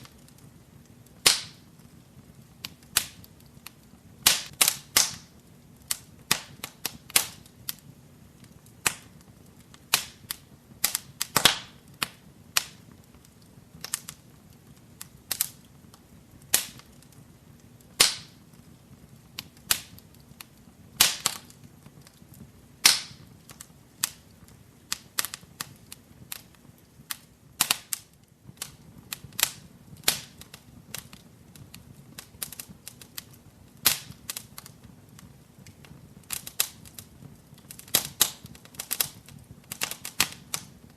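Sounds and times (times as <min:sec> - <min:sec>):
low hiss of flame: 0:00.0 - 0:40.9
wood fire crackling and popping: 0:00.0 - 0:40.9.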